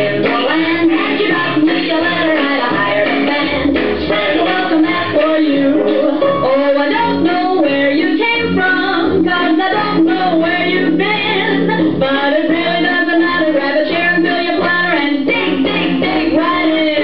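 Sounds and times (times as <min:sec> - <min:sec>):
woman singing pop song with band: 0:00.0 - 0:17.0.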